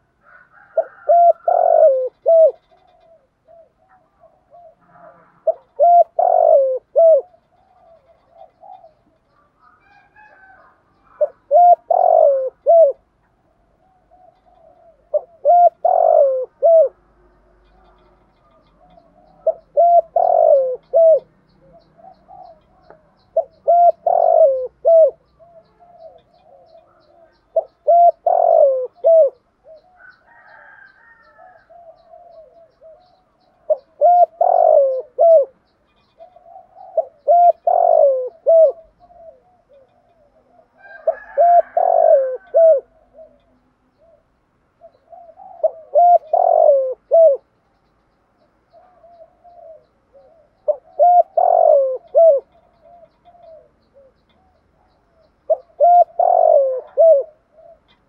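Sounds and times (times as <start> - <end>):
dove cooing: 0.0 - 47.6, 48.7 - 58.0.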